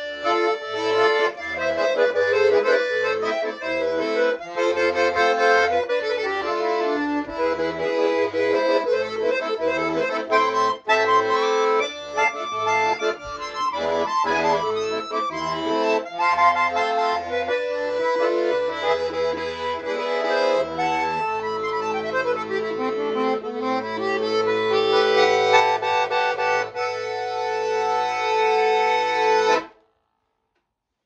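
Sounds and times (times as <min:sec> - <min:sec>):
button accordion playing melody: 0:00.0 - 0:29.8.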